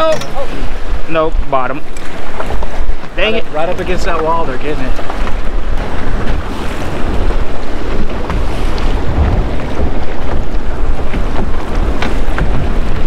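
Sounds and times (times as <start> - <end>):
choppy sea churning: 0.0 - 13.0
waves breaking on rocks: 0.0 - 13.0
wind rumbling on microphone: 0.0 - 13.0.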